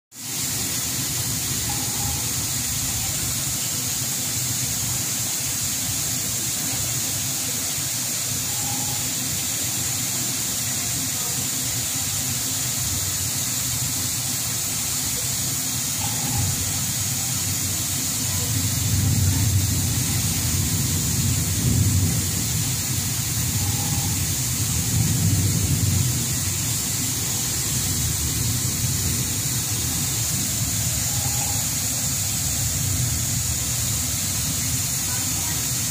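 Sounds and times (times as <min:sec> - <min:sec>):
hiss: 0:00.1 - 0:35.9.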